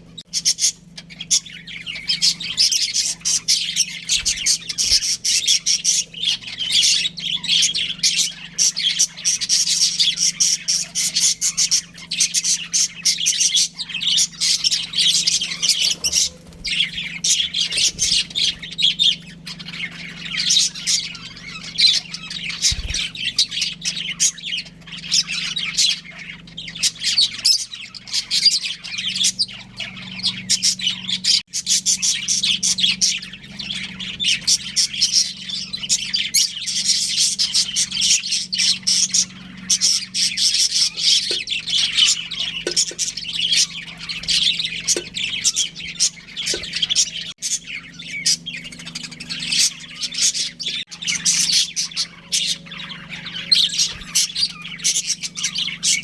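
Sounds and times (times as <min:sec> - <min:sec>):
budgerigars chirping and squawking: 0:00.0 - 0:56.0
steady low hum: 0:00.0 - 0:56.0.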